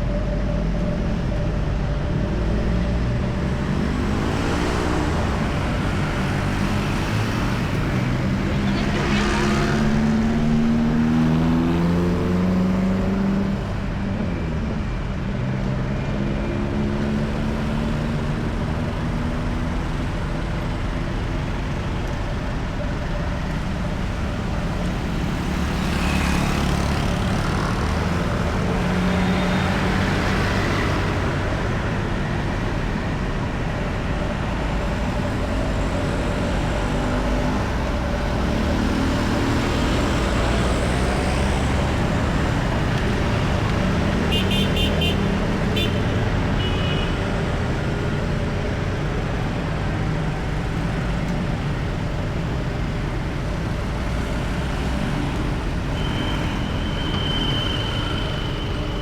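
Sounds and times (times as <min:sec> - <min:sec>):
road traffic engine hum: 0:00.0 - 0:59.0
vehicles passing: 0:00.0 - 0:59.0.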